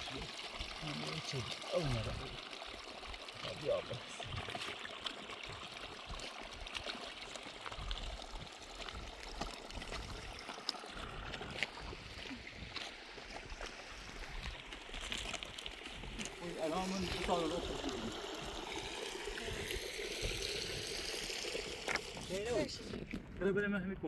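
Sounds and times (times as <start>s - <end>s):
water flowing and trickling: 0.0s - 23.4s.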